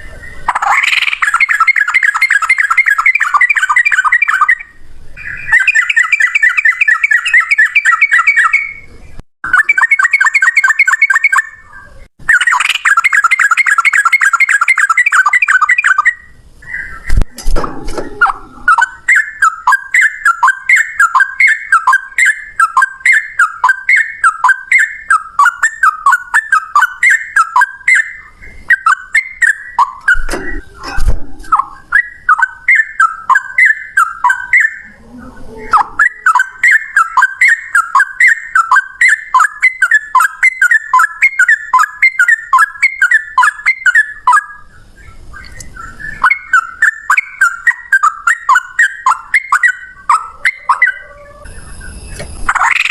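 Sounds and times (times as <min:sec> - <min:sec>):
bird singing whistled phrases: 0:00.0 - 0:08.9, 0:09.5 - 0:17.3, 0:18.1 - 0:30.8, 0:31.5 - 0:52.9.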